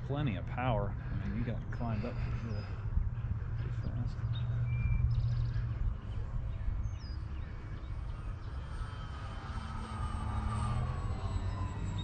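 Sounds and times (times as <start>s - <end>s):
wind rumbling on microphone: 0.0s - 11.9s
model plane motor droning overhead: 0.0s - 12.0s.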